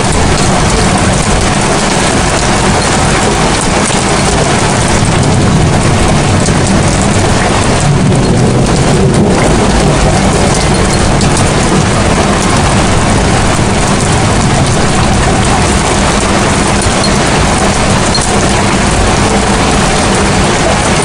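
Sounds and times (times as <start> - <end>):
heavy rain: 0.0 - 21.0
low rumble: 0.0 - 21.0.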